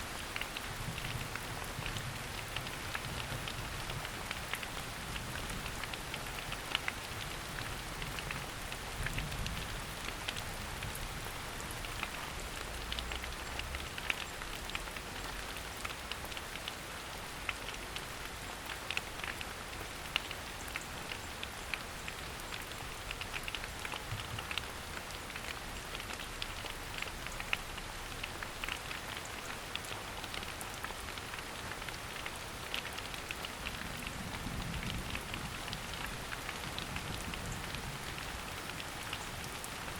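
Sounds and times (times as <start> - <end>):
raindrops pattering close by: 0.0 - 39.9
steady rain hissing: 0.0 - 39.9.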